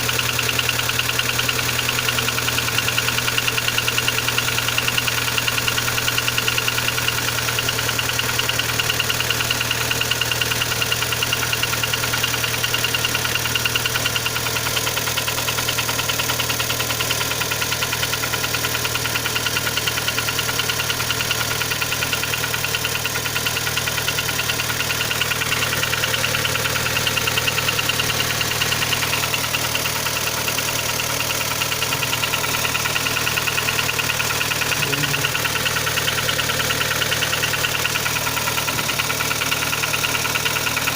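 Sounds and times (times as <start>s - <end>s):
car engine idling with knock: 0.0s - 40.9s.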